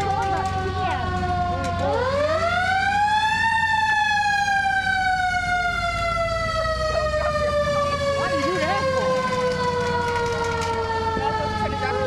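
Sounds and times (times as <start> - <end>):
fire truck siren wailing: 0.0 - 12.0
truck engine running: 0.0 - 12.0.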